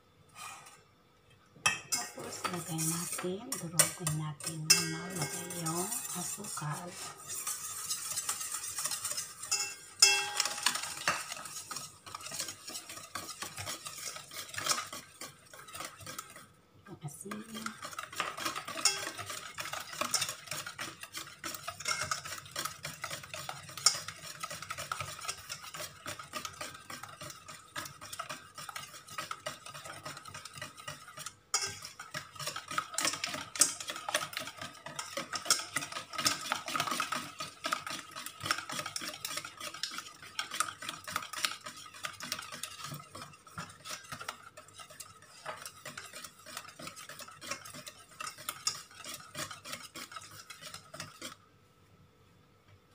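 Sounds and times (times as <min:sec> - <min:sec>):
whisk clicking in metal bowl: 0:01.6 - 0:51.4.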